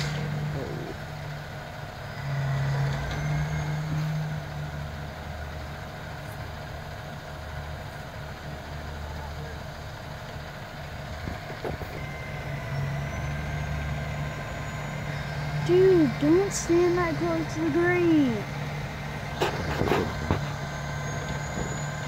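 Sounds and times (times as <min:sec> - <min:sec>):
crane diesel engine running: 0:00.0 - 0:22.0.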